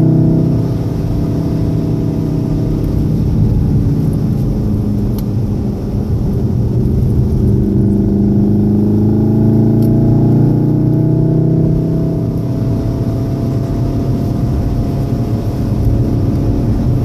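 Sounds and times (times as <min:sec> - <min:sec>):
car engine accelerating: 0:00.0 - 0:17.0
tyre noise on wet road: 0:00.0 - 0:17.0.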